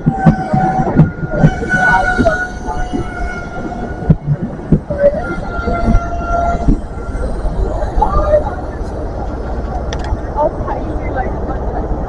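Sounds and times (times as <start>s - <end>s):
train rumble with high whine: 0.0s - 12.0s.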